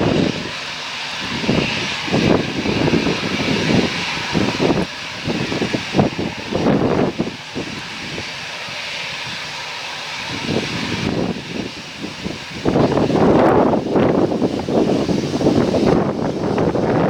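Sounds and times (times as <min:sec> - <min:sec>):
jet engines hissing: 0:00.0 - 0:17.0
wind buffeting microphone: 0:00.0 - 0:17.0.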